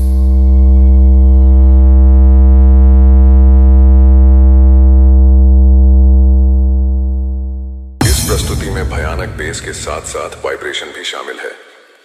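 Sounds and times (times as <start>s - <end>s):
synthesizer bass tone: 0.0s - 10.4s.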